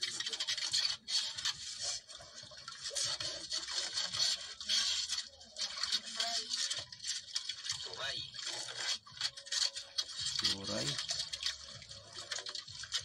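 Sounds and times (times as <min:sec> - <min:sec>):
knife scraping and cutting fish: 0:00.0 - 0:13.0.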